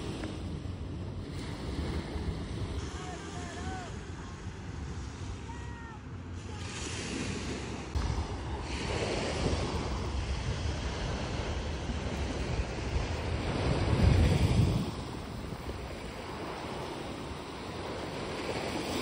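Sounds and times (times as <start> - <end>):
small waves on sandy shore: 0.0 - 19.0
wind noise on microphone: 0.0 - 19.0.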